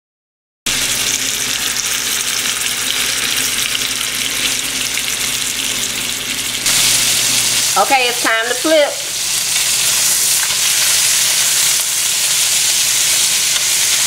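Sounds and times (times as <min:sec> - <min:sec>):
chicken sizzling in oil: 0:00.7 - 0:14.0.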